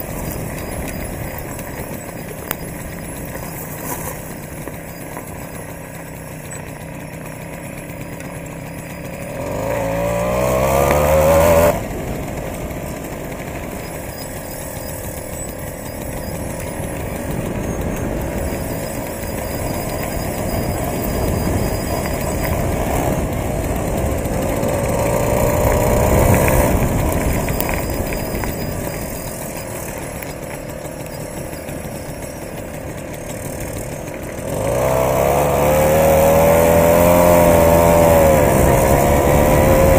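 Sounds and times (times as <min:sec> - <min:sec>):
moped engine revving: 0:00.0 - 0:39.9
wind and road noise: 0:00.0 - 0:39.9.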